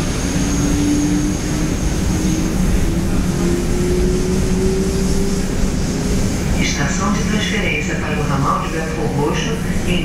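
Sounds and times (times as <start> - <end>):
wheels rumbling on track: 0.0 - 10.0.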